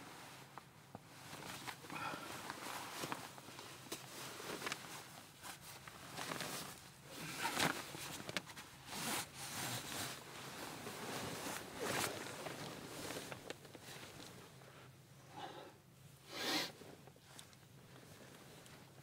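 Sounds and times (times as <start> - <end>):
clothing and bedding rustling: 0.0 - 15.0, 16.7 - 19.0.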